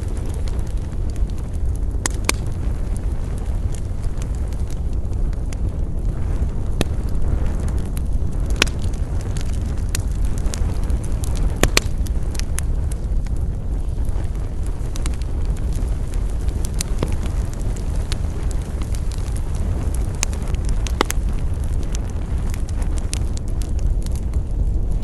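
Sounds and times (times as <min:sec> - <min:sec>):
campfire crackling and popping: 0:00.0 - 0:25.0
steady low rumble: 0:00.0 - 0:25.0.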